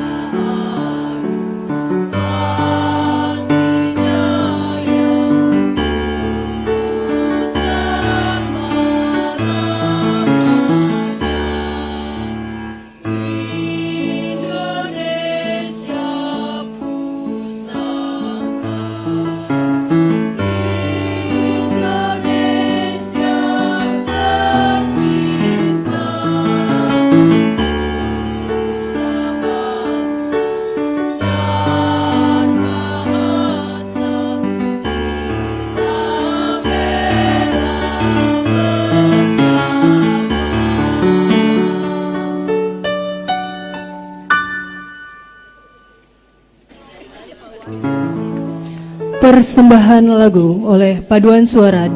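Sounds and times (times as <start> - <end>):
choir singing: 0.0 - 42.8.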